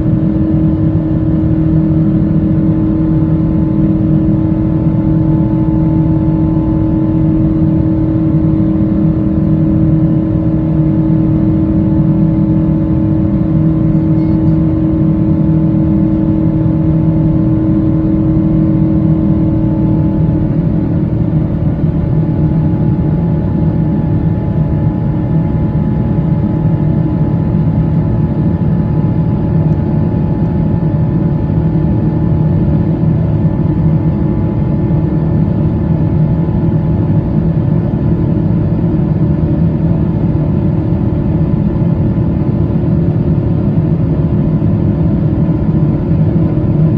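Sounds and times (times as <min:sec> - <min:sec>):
jet engines heard from cabin: 0:00.0 - 0:46.9.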